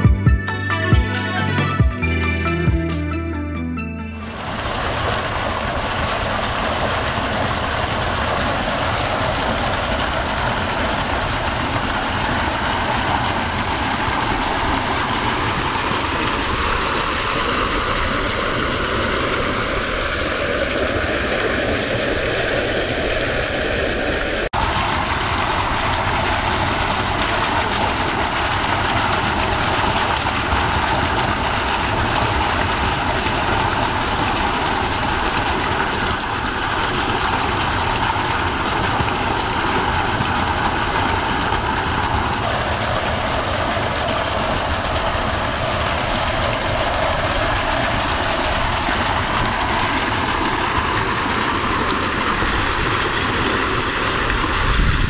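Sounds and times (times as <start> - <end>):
fountain water splashing: 4.2 - 55.0.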